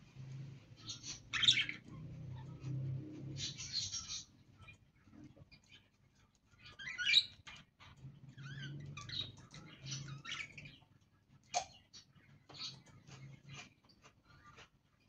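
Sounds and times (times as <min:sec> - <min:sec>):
budgerigars chirping and chattering: 0:00.2 - 0:15.0.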